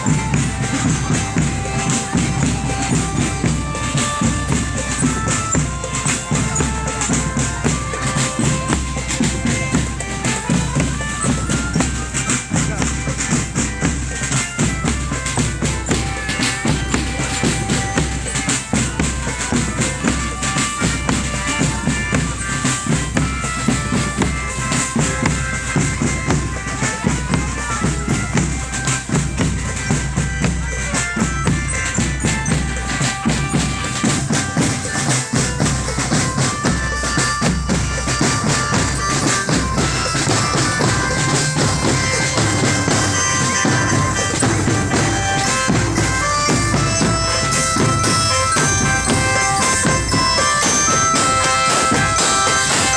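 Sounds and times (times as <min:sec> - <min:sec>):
marching drum band playing: 0:00.0 - 0:52.9.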